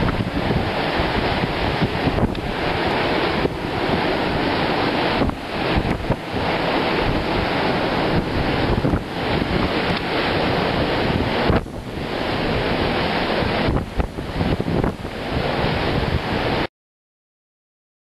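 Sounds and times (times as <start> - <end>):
rough sea rushing: 0.0 - 16.7
wind buffeting microphone: 0.0 - 16.7.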